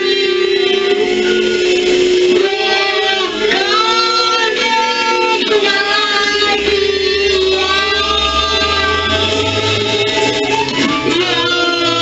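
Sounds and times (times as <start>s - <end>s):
girl singing into microphone: 0.0s - 12.0s
song with guitar: 0.0s - 12.0s.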